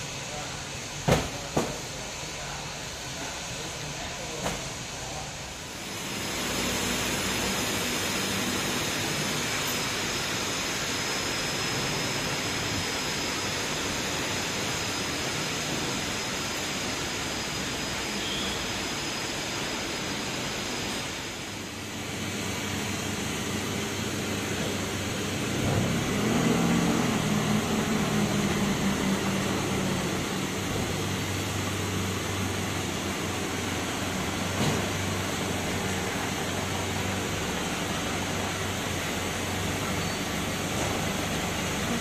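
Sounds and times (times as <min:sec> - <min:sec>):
forklift engine running: 0:04.8 - 0:42.0
loud steady rushing noise: 0:05.4 - 0:42.0.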